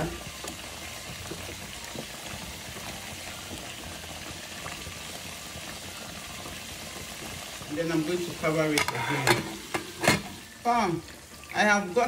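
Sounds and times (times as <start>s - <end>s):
food simmering in a pot: 0.0s - 12.0s.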